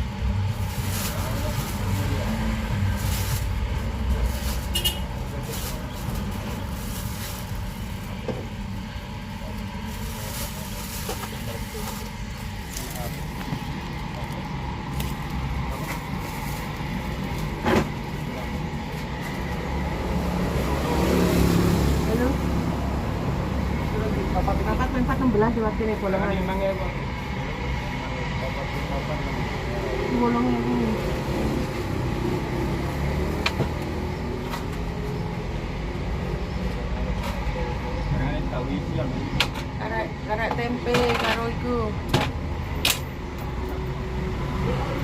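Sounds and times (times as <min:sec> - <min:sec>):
road traffic rumble: 0:00.0 - 0:45.0.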